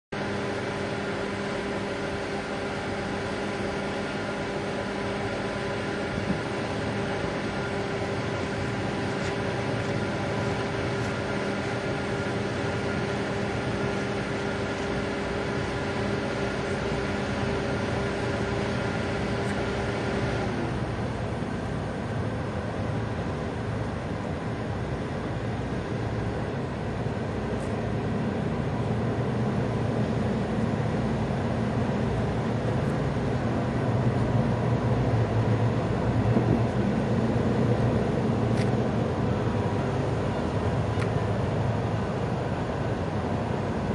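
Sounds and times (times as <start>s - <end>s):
ferry diesel engines droning: 0.2s - 43.9s.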